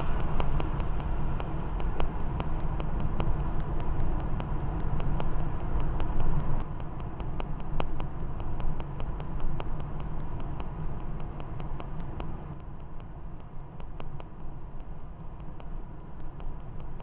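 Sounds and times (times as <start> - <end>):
car engine and tyre rumble: 0.0 - 17.0
faint regular clicking: 0.0 - 17.0.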